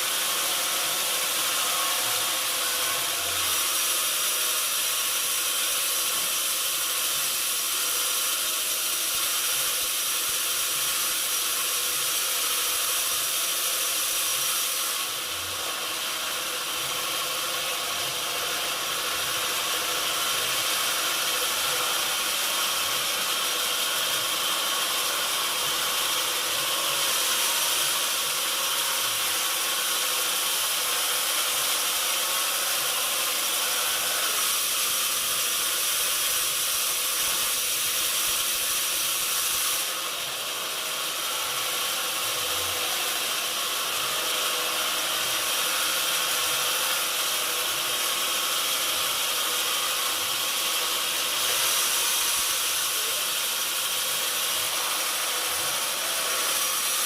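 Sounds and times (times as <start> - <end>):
sawmill machinery hissing and whining: 0.0 - 57.0.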